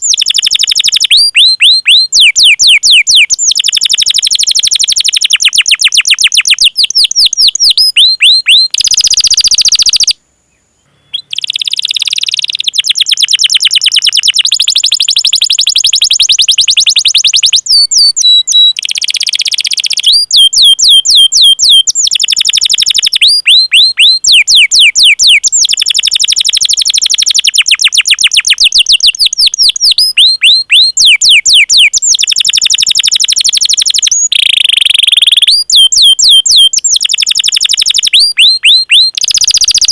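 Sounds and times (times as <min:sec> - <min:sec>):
canary singing trills and whistles: 0:00.0 - 0:10.2, 0:11.1 - 0:39.9.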